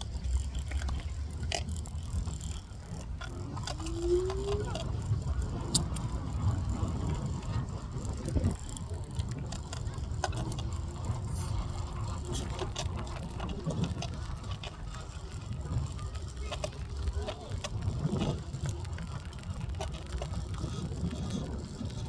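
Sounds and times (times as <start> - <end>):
hoverboard wheels grinding: 0.0 - 22.0.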